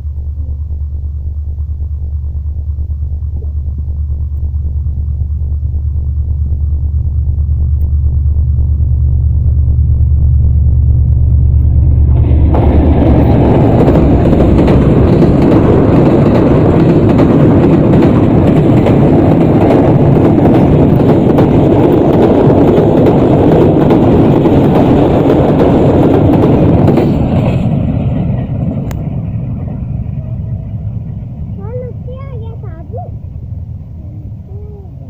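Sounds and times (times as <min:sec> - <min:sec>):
train rattling over bridge: 0:01.9 - 0:35.0.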